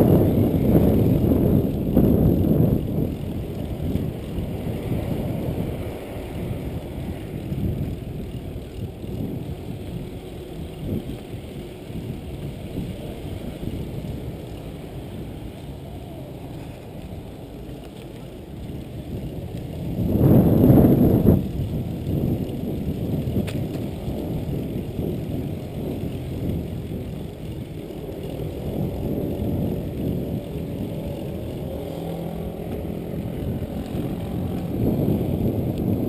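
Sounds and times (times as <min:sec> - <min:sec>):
bike tyres rumbling on concrete: 0:00.0 - 0:36.0
wind buffeting microphone: 0:00.0 - 0:36.0.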